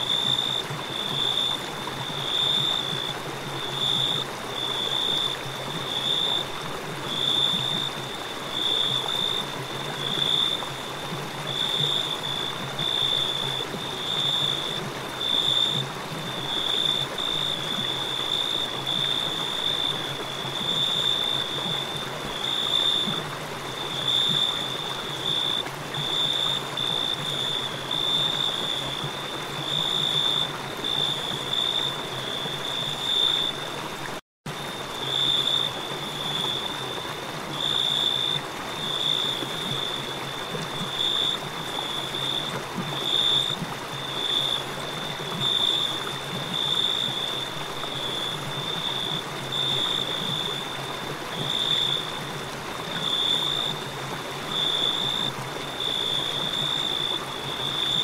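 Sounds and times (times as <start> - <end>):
crickets chirping: 0.0 - 33.9, 34.5 - 58.0
river flowing: 0.0 - 58.0.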